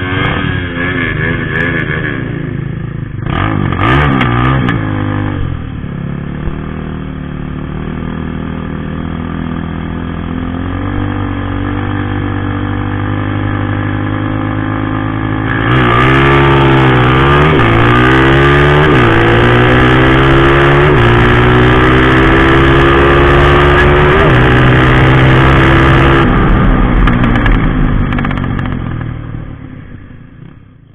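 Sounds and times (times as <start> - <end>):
motorcycle engine revving and upshifting: 0.0 - 5.7, 7.9 - 29.5.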